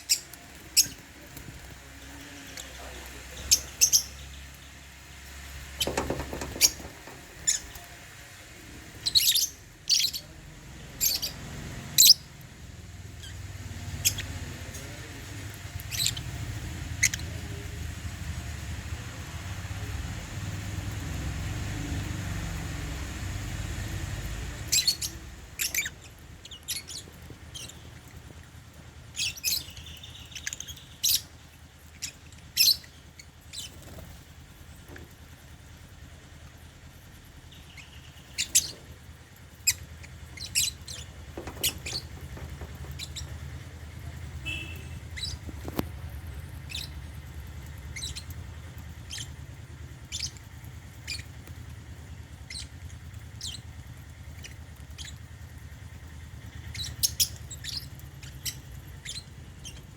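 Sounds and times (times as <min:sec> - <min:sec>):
lovebirds chirping: 0:00.0 - 0:59.9.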